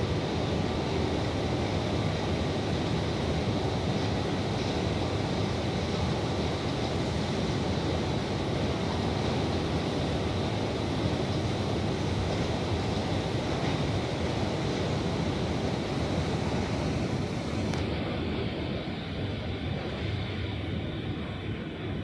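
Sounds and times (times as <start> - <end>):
station ambient roar: 0.0 - 22.0.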